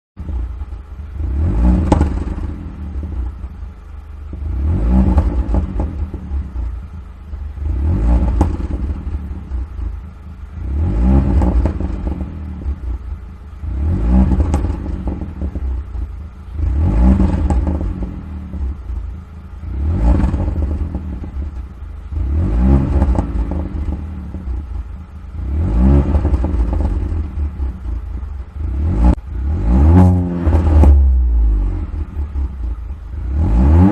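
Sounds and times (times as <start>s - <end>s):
car engine revving: 0.2s - 33.9s
exhaust crackles and pops: 0.2s - 33.9s.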